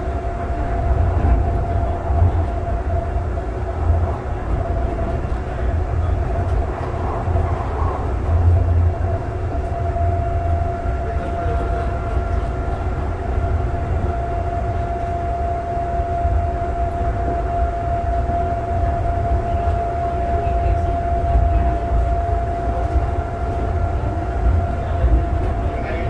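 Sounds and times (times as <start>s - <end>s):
light rail car rumble and whine: 0.0s - 26.0s.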